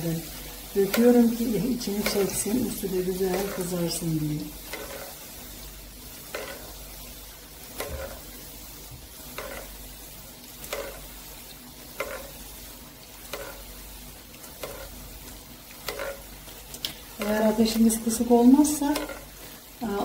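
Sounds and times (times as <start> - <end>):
dough sizzling in oil: 0.0 - 20.0.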